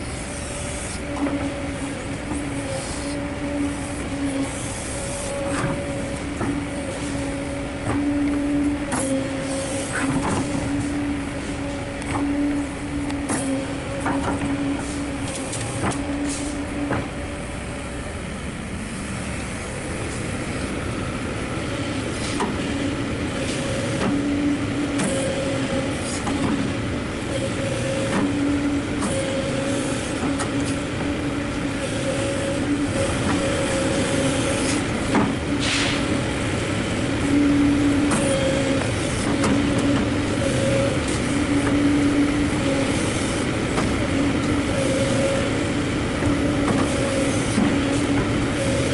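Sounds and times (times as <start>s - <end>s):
excavator engine and hydraulics: 0.0s - 48.9s
hydraulic hum: 0.0s - 48.9s.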